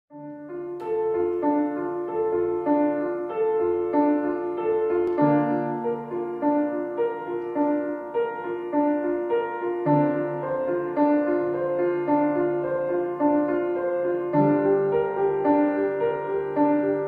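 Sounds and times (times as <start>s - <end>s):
piano playing repeating chords: 0.1s - 17.0s.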